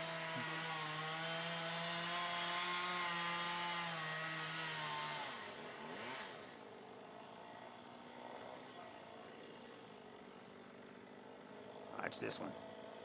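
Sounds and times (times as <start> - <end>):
chainsaw cutting at high revs: 0.0 - 11.9, 12.5 - 13.0.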